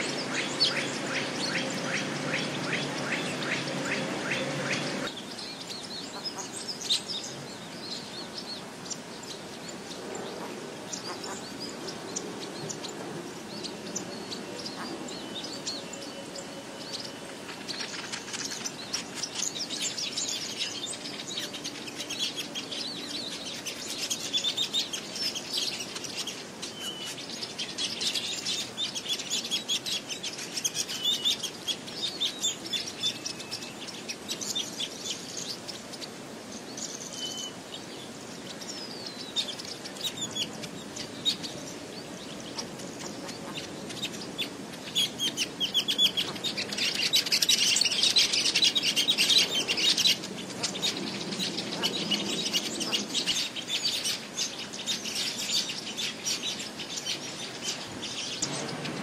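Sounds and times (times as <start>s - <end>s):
weaver birds chattering: 0.0s - 59.0s.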